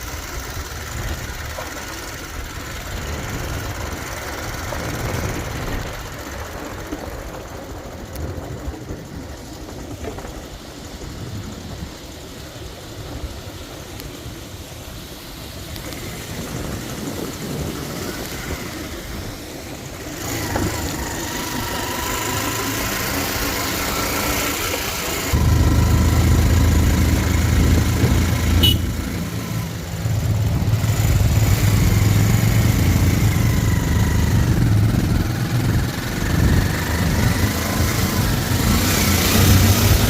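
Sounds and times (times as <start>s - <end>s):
motorcycle engine running: 0.0s - 40.0s
road noise: 0.0s - 40.0s.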